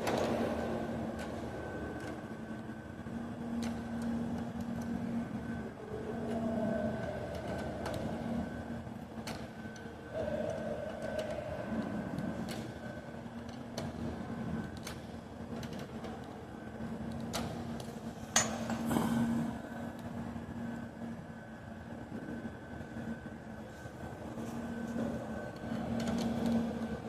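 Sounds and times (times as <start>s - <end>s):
steady mechanical hum: 0.0s - 27.0s.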